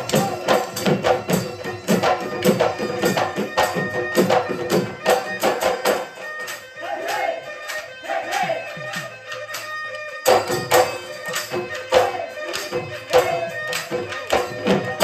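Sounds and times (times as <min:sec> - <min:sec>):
wind instrument melody: 0:00.0 - 0:15.0.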